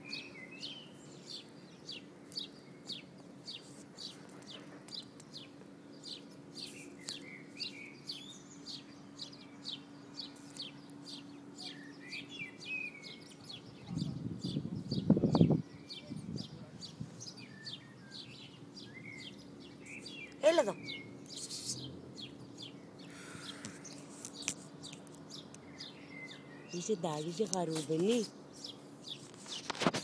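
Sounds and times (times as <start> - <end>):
lower warbling bird calls: 0.0 - 29.7
small birds chirping: 0.0 - 30.0.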